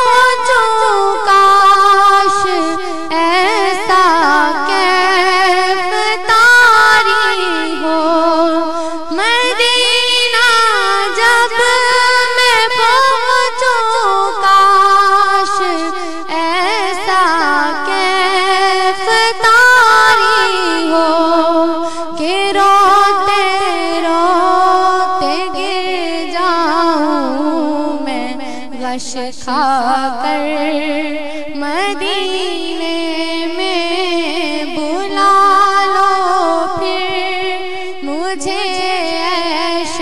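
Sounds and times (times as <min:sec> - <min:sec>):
person singing: 0:00.0 - 0:40.0.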